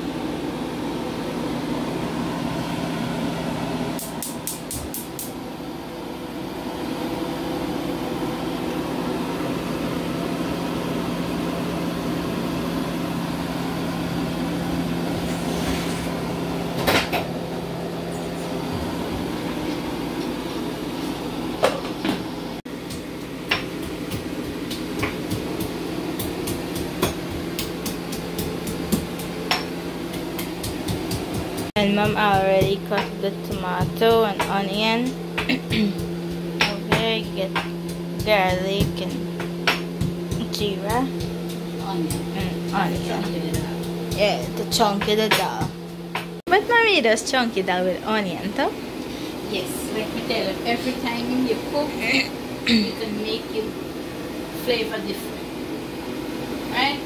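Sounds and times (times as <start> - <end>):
motor humming: 0.0 - 55.6.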